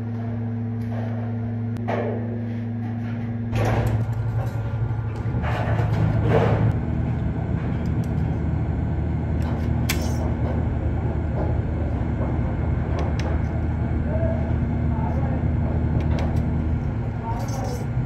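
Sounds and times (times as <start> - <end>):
low background rumble: 3.0 - 18.0.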